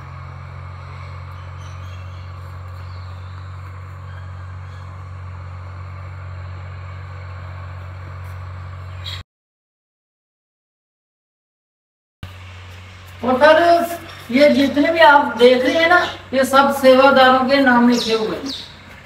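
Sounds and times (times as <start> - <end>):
air conditioner humming: 0.0 - 9.2, 12.2 - 19.0.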